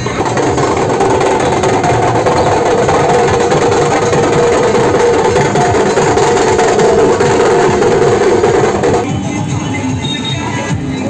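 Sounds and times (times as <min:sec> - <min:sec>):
loud music with drums: 0:00.0 - 0:11.0.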